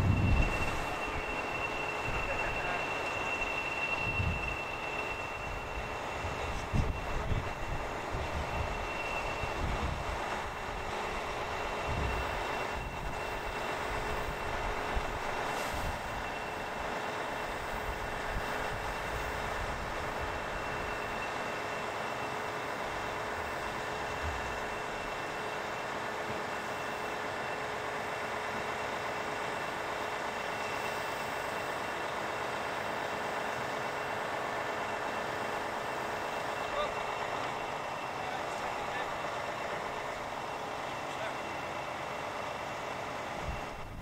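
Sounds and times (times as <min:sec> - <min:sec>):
diesel lorry engine idling: 0:00.0 - 0:44.0
steady high whine: 0:00.0 - 0:44.0.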